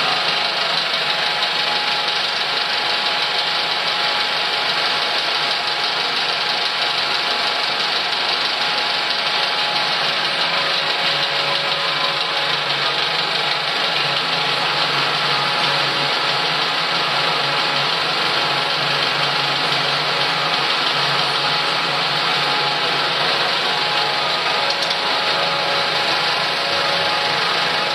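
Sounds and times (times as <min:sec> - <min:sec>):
film projectors whirring: 0:00.0 - 0:27.9.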